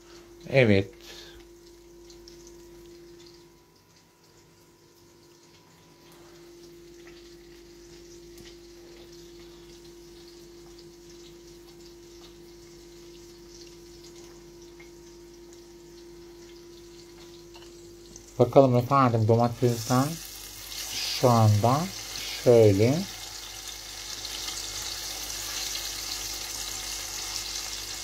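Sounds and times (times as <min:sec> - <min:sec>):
steady hum: 0:00.0 - 0:23.2
tomatoes frying in oil: 0:00.0 - 0:28.0.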